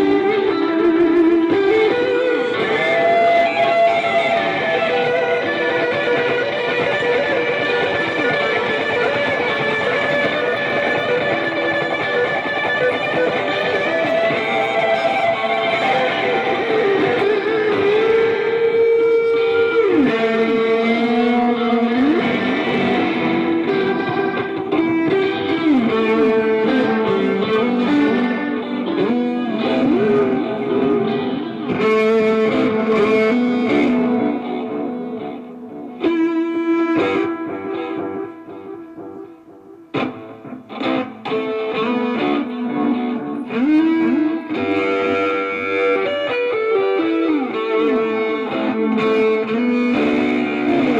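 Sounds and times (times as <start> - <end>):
electric guitar with effects: 0.0 - 50.9.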